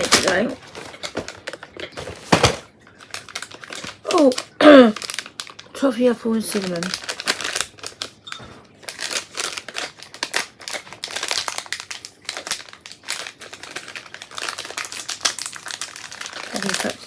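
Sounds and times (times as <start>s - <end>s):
snack packet crinkling: 0.0s - 17.0s.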